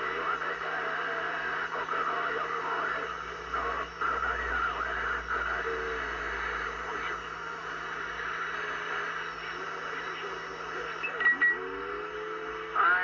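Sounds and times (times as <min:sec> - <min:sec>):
faint distant radio voices: 0:00.0 - 0:13.0
radio static hiss: 0:00.0 - 0:13.0.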